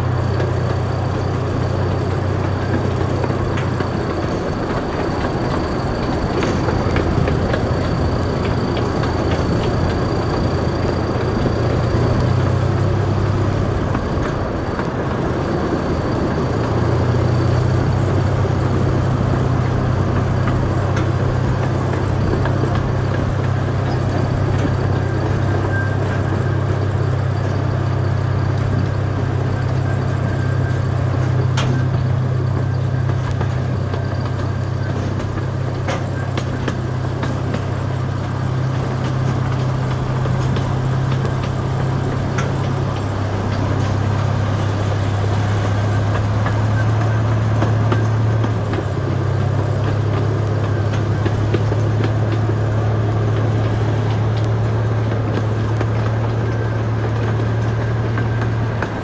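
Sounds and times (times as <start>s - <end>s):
miniature train engine drone: 0.0s - 59.0s
wheels rolling on rails: 0.0s - 59.0s.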